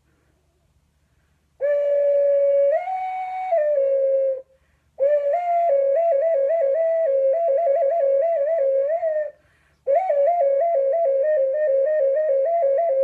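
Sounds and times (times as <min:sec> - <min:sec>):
ocarina playing: 0:01.6 - 0:13.0.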